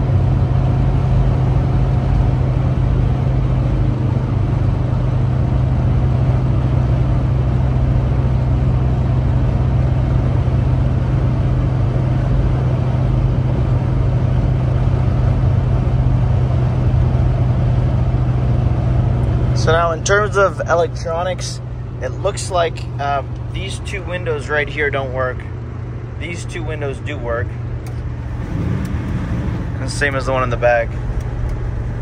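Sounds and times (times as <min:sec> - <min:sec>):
diesel engine running steadily: 0:00.0 - 0:32.0.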